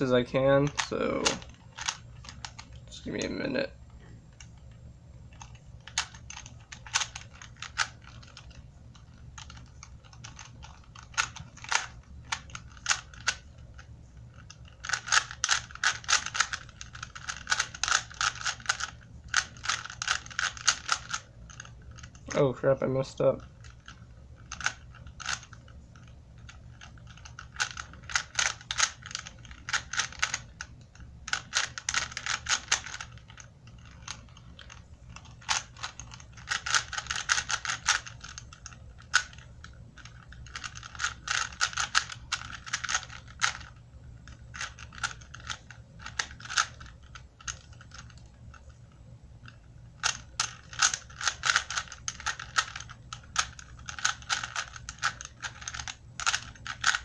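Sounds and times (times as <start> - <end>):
plastic puzzle cube clicking: 0.7 - 2.8, 5.4 - 22.3, 23.4 - 48.8, 49.4 - 57.0.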